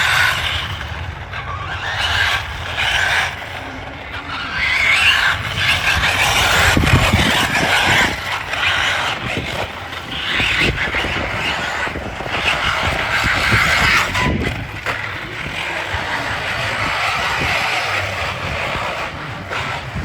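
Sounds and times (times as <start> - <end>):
radio-controlled car driving: 0.0 - 20.0.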